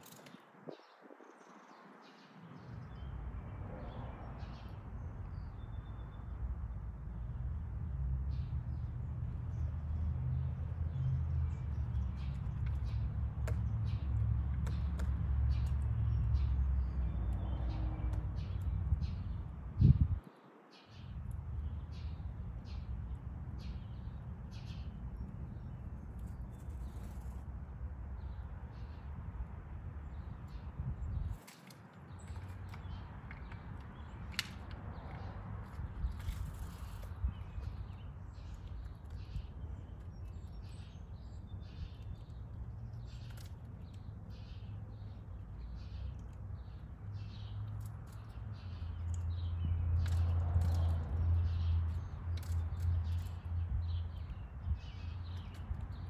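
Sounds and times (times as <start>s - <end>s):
small birds chirping: 0.0s - 7.4s, 8.2s - 56.0s.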